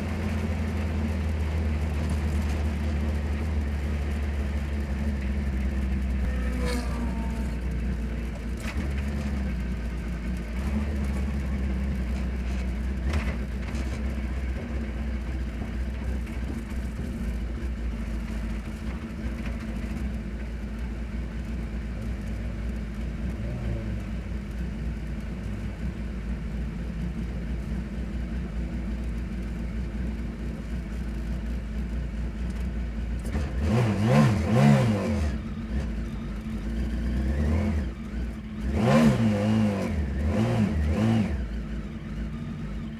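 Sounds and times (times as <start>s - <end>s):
racing car engine rumble: 0.0s - 42.9s.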